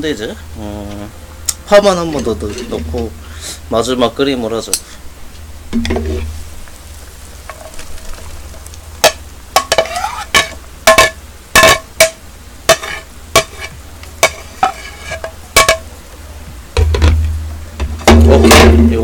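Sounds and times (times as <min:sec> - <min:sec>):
boiling pot hiss: 0:00.0 - 0:19.0.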